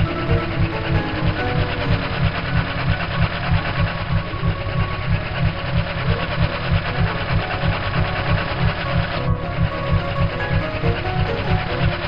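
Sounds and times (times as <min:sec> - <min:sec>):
heavy low pulse: 0:00.0 - 0:12.0
machine-like clattering rhythm: 0:00.0 - 0:12.0.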